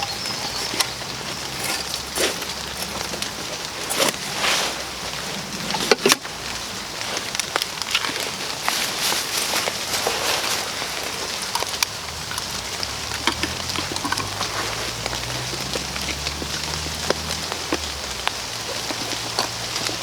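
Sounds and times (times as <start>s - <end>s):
raindrops ticking: 0.0s - 20.0s
steady rain: 0.0s - 20.0s.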